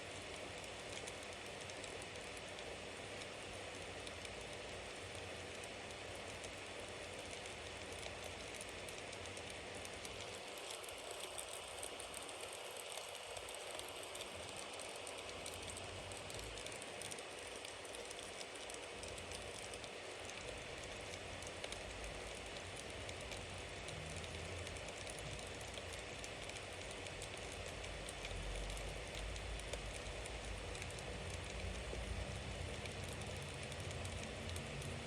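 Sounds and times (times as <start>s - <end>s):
bonfire hissing: 0.1s - 35.0s
wood crackling and popping: 0.1s - 35.0s.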